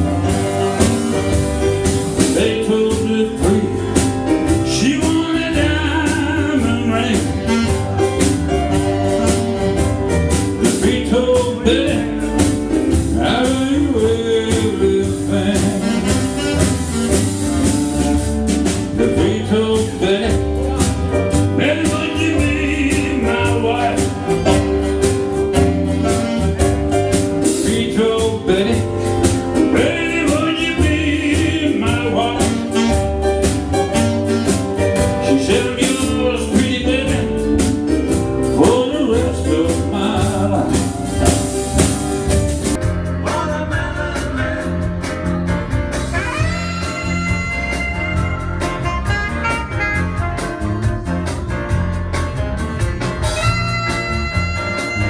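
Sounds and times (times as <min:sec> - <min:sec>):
acoustic guitar: 0:00.0 - 0:55.0
drums: 0:00.0 - 0:55.0
electric bass: 0:00.0 - 0:55.0
lead melody line: 0:00.0 - 0:55.0.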